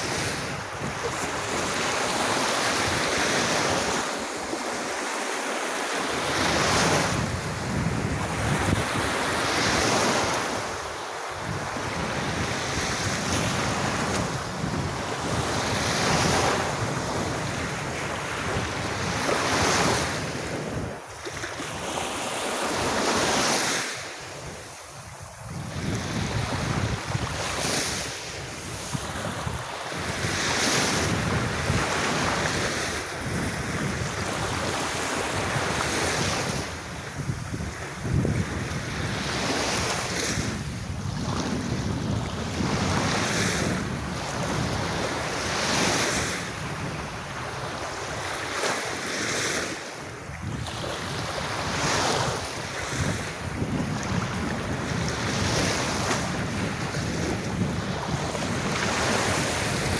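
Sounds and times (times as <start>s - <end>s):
waves washing onto a beach: 0.0s - 59.9s.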